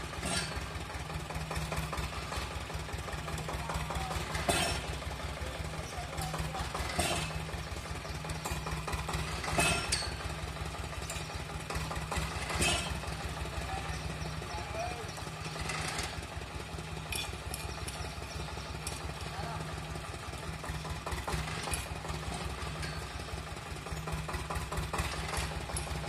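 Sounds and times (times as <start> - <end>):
small engine droning: 0.0 - 26.0.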